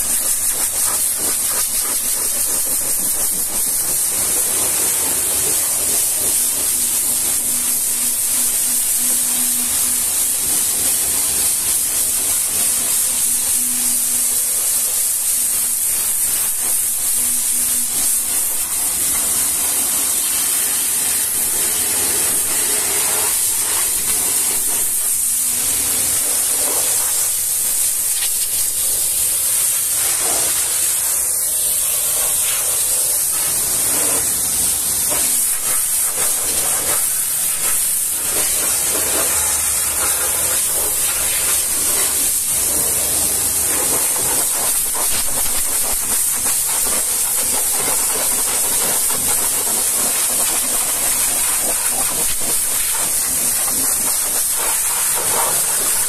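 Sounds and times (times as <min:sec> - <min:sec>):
pressure washer spraying metal: 0:00.0 - 0:56.0.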